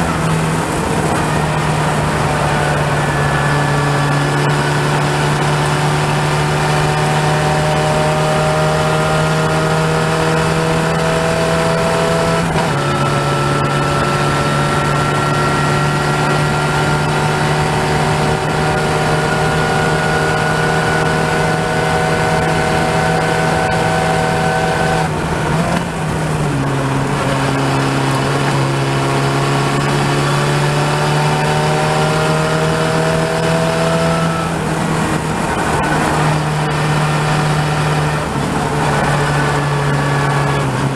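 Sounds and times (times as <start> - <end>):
wind rush: 0.0 - 29.5, 30.1 - 40.9
race car engine at speed: 0.0 - 40.9.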